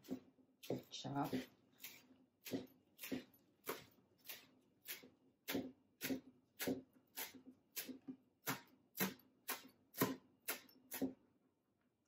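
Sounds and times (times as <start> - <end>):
knife chopping on cutting board: 0.0 - 11.2.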